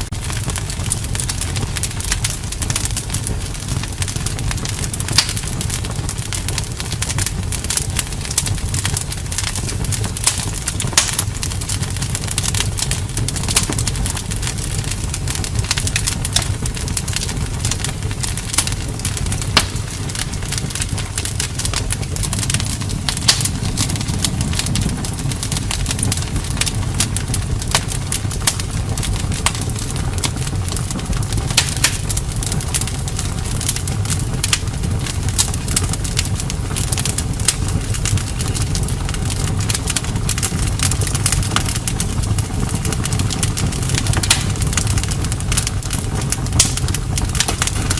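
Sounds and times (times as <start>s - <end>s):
low rumble of flames: 0.0s - 47.9s
wood crackling and popping: 0.0s - 47.9s.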